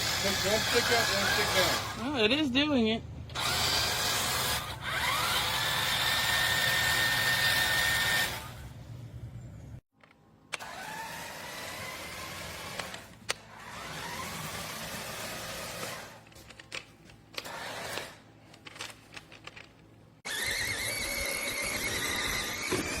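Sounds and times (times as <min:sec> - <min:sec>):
electric motors whining: 0:00.0 - 0:02.4, 0:03.3 - 0:08.9, 0:10.5 - 0:23.0.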